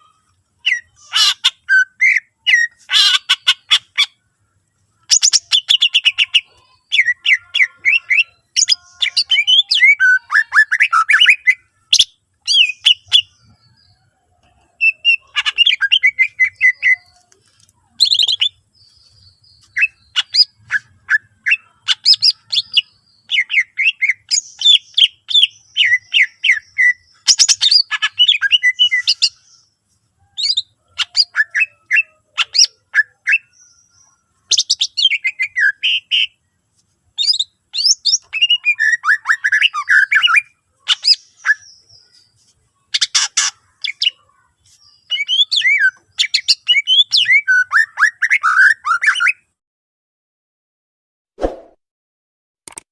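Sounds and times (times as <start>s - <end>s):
bird singing chirps and trills: 0.0s - 36.6s, 37.2s - 49.5s.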